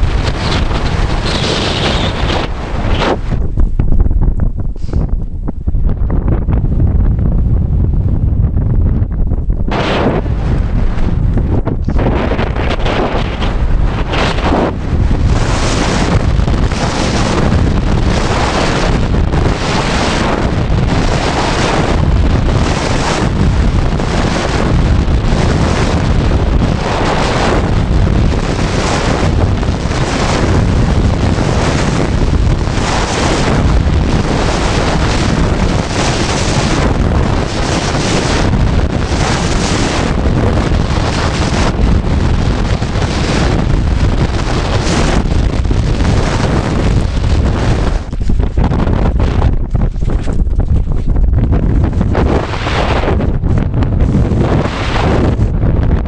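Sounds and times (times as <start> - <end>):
wind blasting on microphone: 0.0 - 56.0
wind swish: 0.0 - 56.0.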